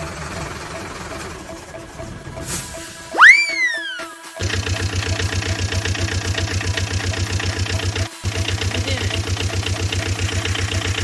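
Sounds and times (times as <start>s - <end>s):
engine idling: 0.0s - 2.8s, 4.4s - 11.0s.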